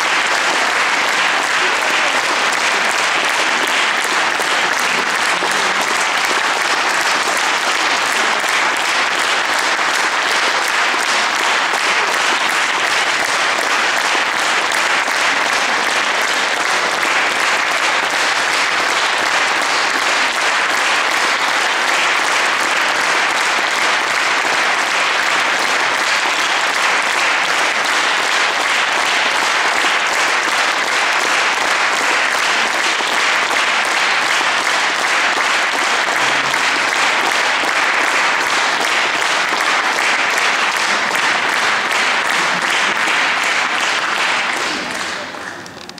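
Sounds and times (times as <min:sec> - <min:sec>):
audience applauding: 0:00.0 - 0:45.9.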